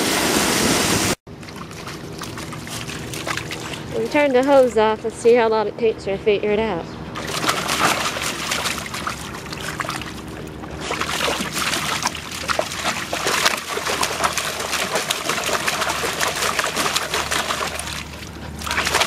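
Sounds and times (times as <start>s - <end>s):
water splashing in a pool: 0.0s - 4.8s, 7.2s - 19.0s.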